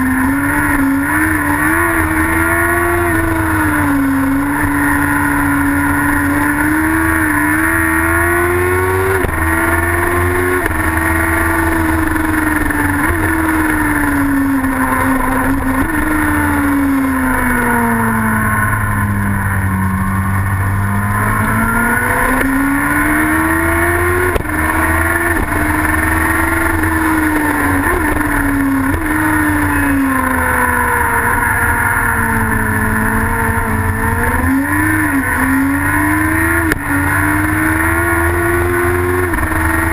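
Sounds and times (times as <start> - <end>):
motorcycle engine at speed with gear changes: 0.0 - 39.9.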